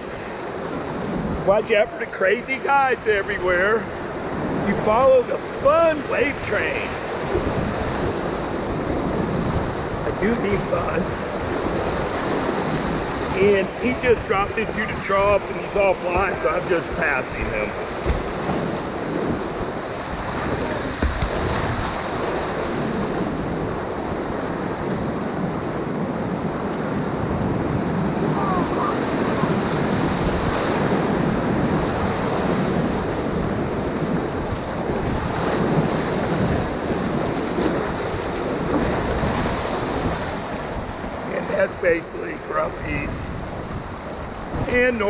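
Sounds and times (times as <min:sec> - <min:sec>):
whitewater rushing: 0:00.0 - 0:45.0.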